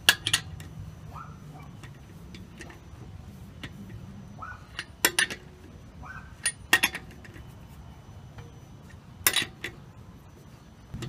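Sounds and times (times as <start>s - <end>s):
socket wrench clinking on lug nuts: 0.0s - 7.6s, 8.3s - 9.9s.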